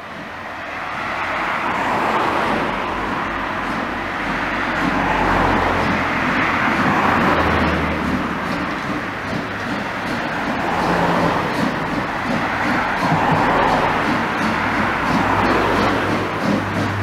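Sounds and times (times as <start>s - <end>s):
steam locomotive exhaust rushing: 0.0s - 17.0s.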